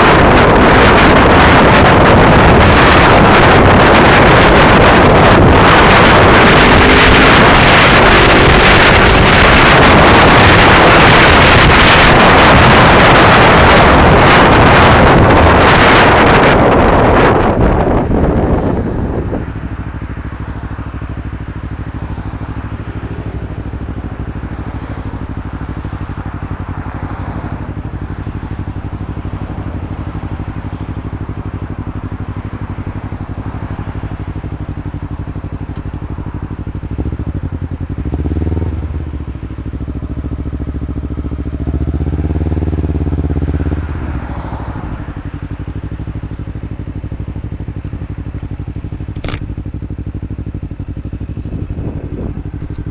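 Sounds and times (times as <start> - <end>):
motorcycle engine idling and revving: 0.0 - 52.9.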